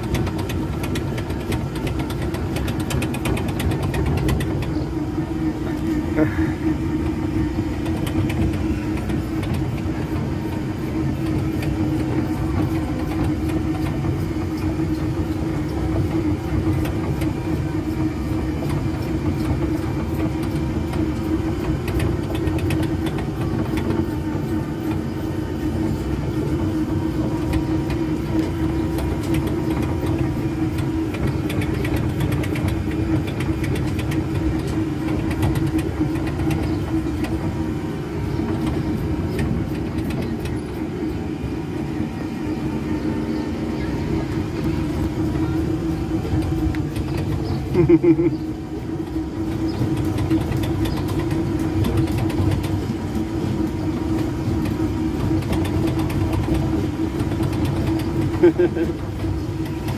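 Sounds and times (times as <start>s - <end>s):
ride vehicle motor humming: 0.0s - 59.9s.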